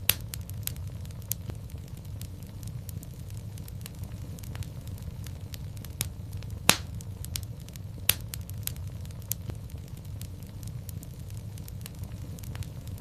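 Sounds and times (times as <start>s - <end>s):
low rumble of flame: 0.0s - 13.0s
wood fire snapping and popping: 0.0s - 13.0s.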